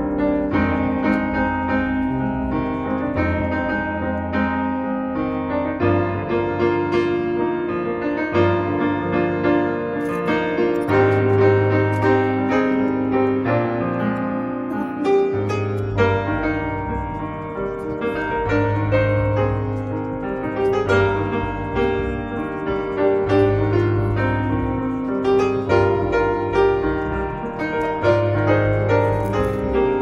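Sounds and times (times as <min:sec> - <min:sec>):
bass notes: 0:00.0 - 0:07.1, 0:10.0 - 0:30.0
piano background music: 0:00.0 - 0:30.0.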